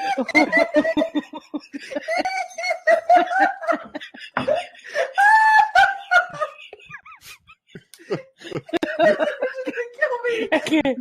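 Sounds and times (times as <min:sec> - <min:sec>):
people laughing hard: 0:00.0 - 0:10.8.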